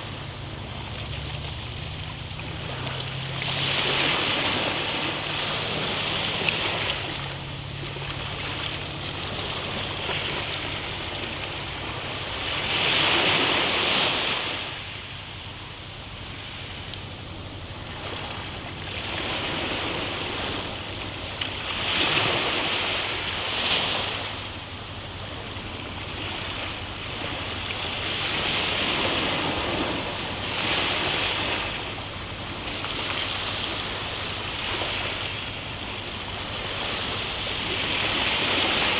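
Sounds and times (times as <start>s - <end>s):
waves breaking and washing ashore: 0.0s - 38.9s.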